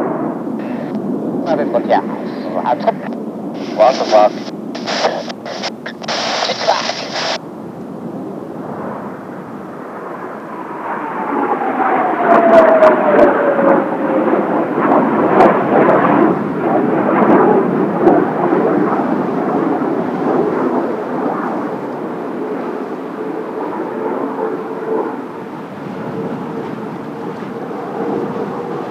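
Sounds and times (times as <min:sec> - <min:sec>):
jet aircraft roaring past: 0:00.0 - 0:28.9
jet engine whine: 0:00.0 - 0:28.9.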